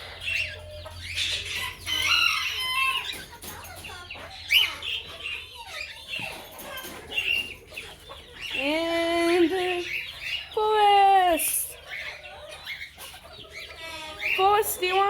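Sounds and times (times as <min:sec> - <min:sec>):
parrots chattering: 0:00.0 - 0:15.0.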